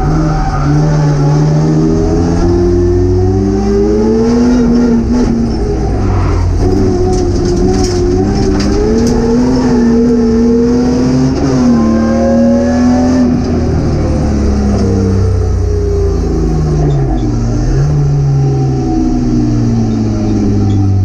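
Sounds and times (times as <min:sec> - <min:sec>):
race car engine under load: 0:00.0 - 0:21.0.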